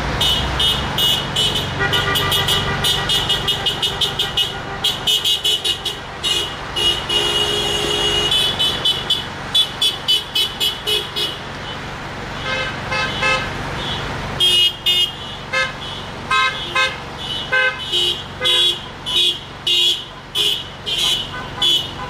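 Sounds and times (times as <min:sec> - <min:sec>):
car horns honking: 0:00.0 - 0:22.0
low rumble of traffic: 0:00.0 - 0:22.0.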